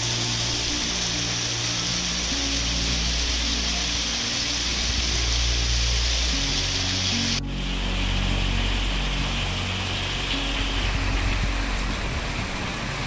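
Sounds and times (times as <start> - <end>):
heavy rain pouring: 0.0 - 13.0
music of low held notes: 0.0 - 13.0.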